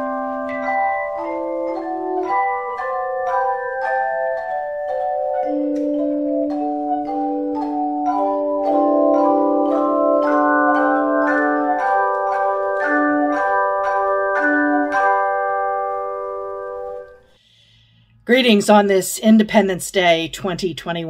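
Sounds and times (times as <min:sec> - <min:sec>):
instrumental keyboard music: 0:00.0 - 0:17.4.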